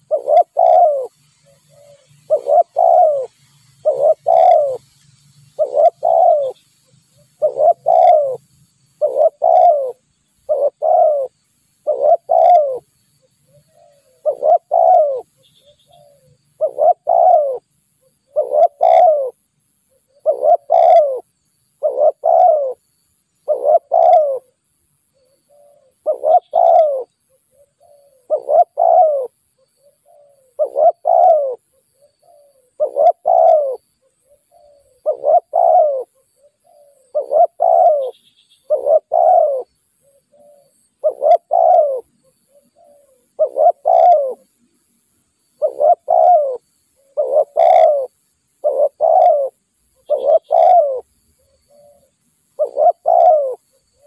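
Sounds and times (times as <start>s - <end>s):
dove cooing: 0.0s - 4.9s, 5.5s - 22.8s, 23.4s - 24.6s, 25.2s - 44.6s, 45.6s - 54.0s.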